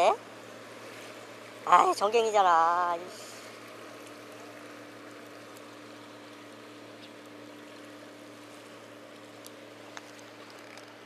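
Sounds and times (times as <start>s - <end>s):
faint wash of water: 0.0s - 11.0s
steady low hum: 0.0s - 11.0s.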